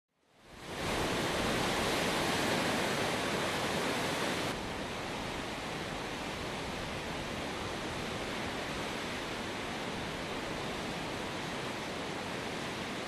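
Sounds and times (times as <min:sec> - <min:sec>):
waterfall rushing: 0:00.6 - 0:13.0.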